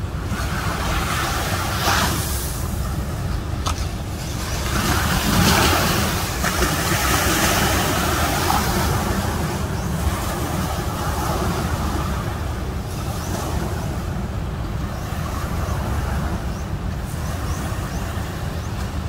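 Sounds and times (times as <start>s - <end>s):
surf of breaking waves: 0.0s - 19.0s.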